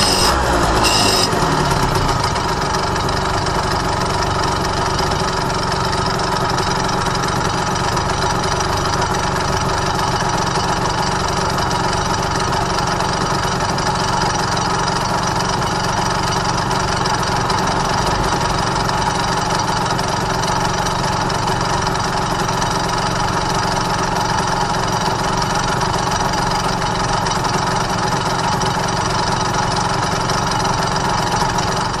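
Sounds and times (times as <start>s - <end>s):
two-stroke motorcycle idling: 0.0s - 32.0s.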